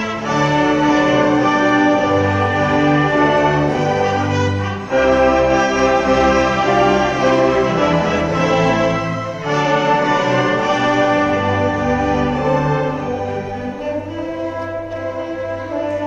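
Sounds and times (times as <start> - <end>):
orchestra playing sustained chords: 0.0 - 16.0.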